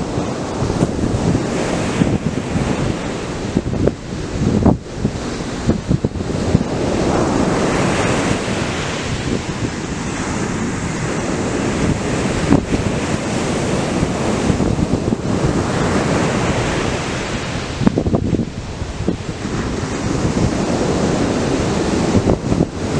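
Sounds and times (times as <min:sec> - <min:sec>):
surf breaking on beach: 0:00.0 - 0:22.9
wind buffeting microphone: 0:00.0 - 0:22.9.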